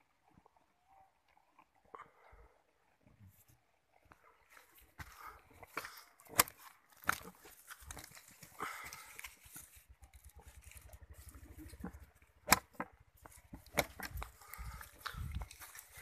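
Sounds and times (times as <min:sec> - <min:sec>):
goats tearing and chewing grass: 0:00.0 - 0:16.0.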